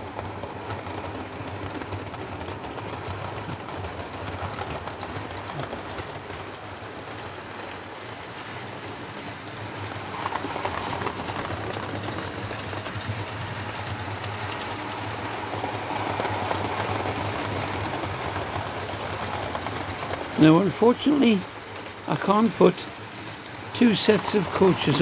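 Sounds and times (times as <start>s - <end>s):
model train motor whirr: 0.0s - 25.0s
wheels running on rails: 0.0s - 25.0s.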